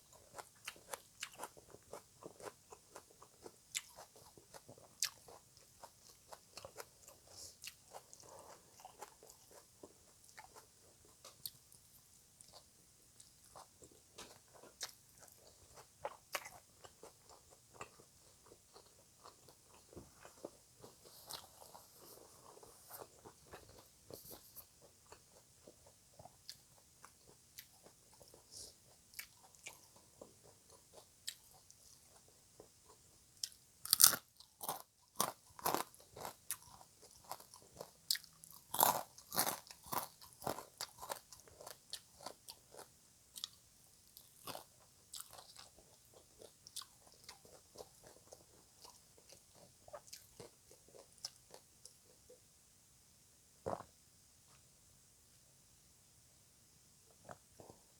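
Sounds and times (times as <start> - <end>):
chewing crunchy food: 0.0 - 52.4, 53.6 - 53.9.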